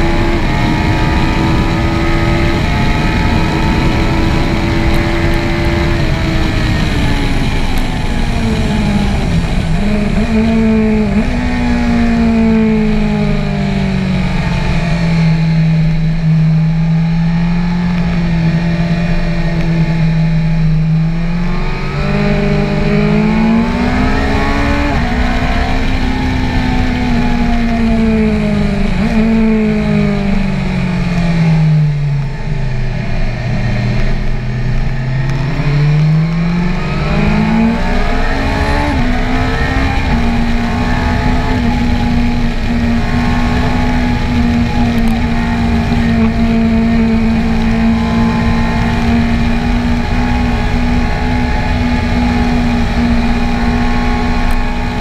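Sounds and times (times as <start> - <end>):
wind rush: 0.0 - 31.6, 32.2 - 55.0
motorcycle engine revving: 0.0 - 55.0.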